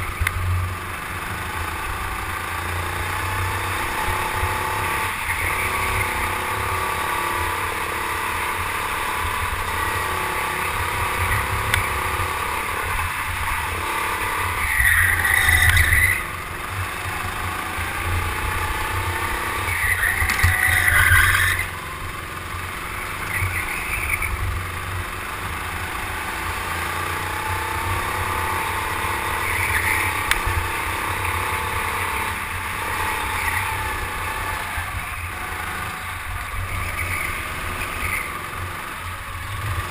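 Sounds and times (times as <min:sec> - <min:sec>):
go-kart engine at racing speed: 0:00.0 - 0:39.9.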